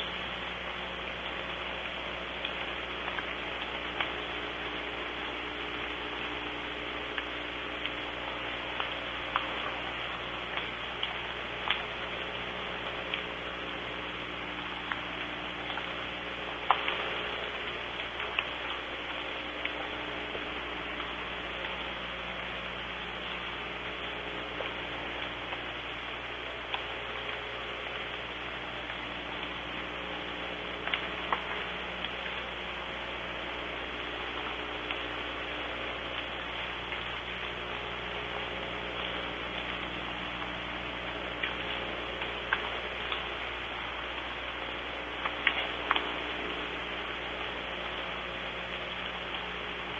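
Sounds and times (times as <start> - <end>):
low electrical hum: 0.0 - 49.9
raindrop ticks: 0.0 - 49.9
soft rain hiss: 0.0 - 49.9.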